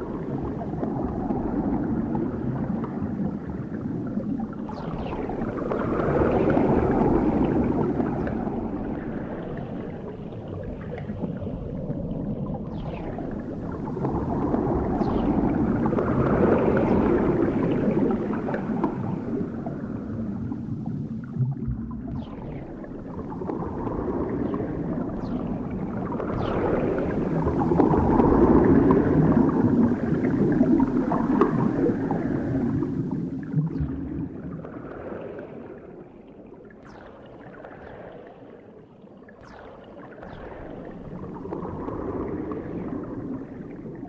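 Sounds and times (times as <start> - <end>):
underwater bubbling: 0.0 - 44.0.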